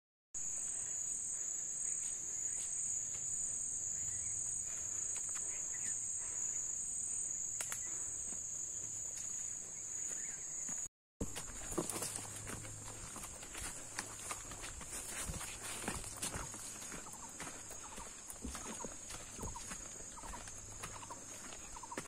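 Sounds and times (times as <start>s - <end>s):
faint ticks and chirps: 0.4s - 10.9s, 12.6s - 22.0s
high-pitched insect drone: 0.4s - 22.0s.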